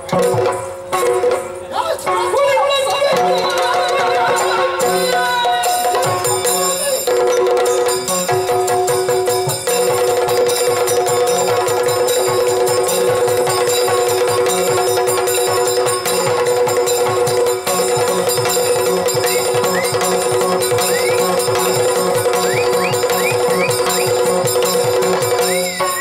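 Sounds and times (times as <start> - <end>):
drums playing fast rhythm: 0.0 - 26.0.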